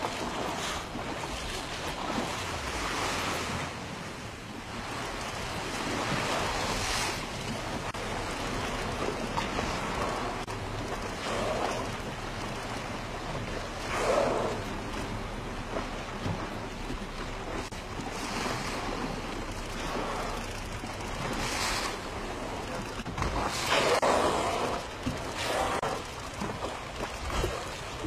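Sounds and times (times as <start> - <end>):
waves lapping: 0.0 - 28.0.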